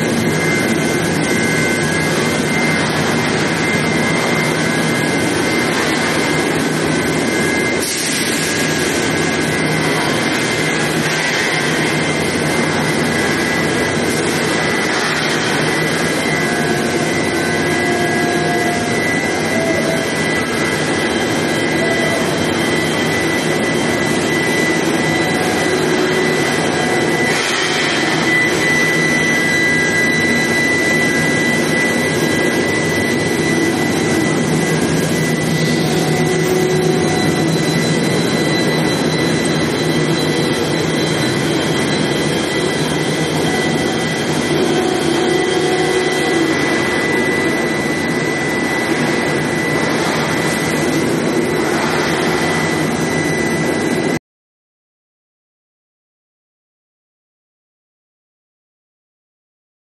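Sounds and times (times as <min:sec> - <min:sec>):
high-pitched whine: 0:00.0 - 0:54.2
industrial machine noise: 0:00.0 - 0:54.2.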